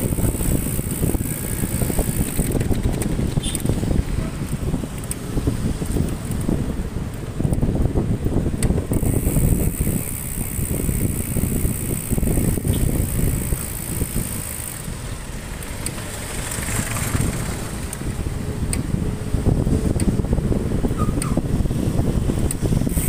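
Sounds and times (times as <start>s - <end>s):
road and traffic noise: 0.0s - 23.0s
wind buffeting microphone: 0.0s - 23.0s.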